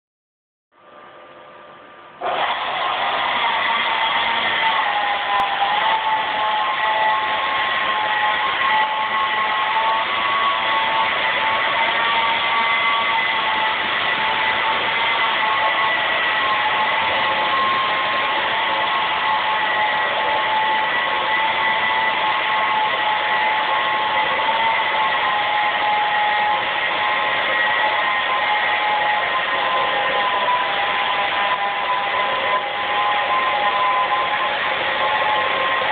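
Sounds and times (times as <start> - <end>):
machine running loudly: 2.2 - 35.9
whining tones: 2.2 - 35.9.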